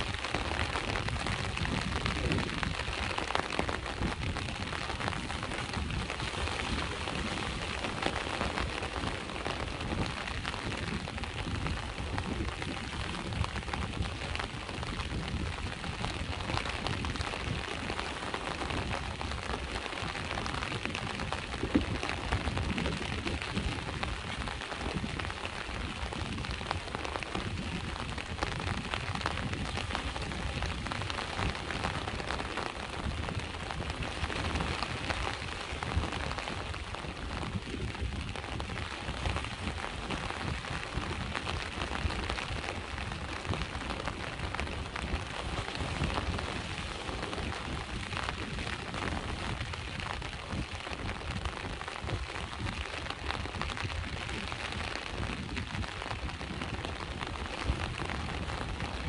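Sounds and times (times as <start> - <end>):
rain on a hard surface: 0.0 - 59.0
sea waves rumbling: 0.0 - 59.0.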